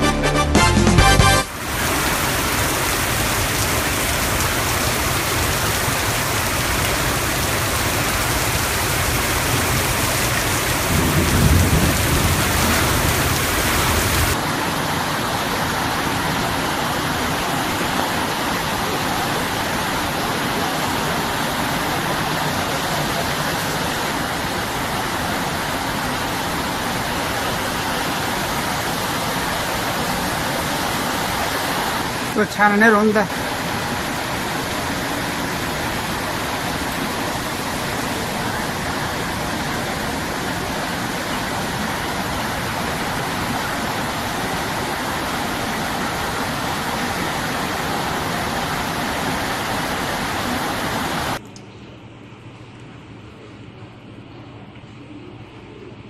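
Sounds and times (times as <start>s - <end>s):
heavy rain pouring: 0.6s - 51.4s.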